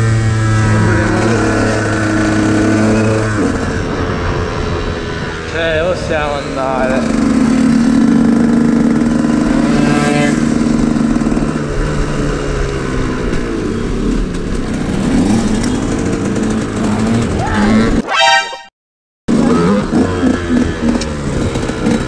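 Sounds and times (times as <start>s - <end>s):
two-stroke motorbike engine: 0.0s - 5.5s, 6.3s - 18.0s, 19.3s - 22.0s.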